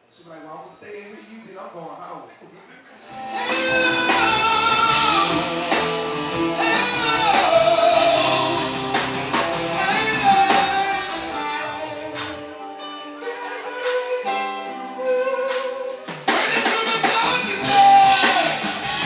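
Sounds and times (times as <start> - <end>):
drums: 3.0 - 19.0
electric guitar: 3.0 - 19.0.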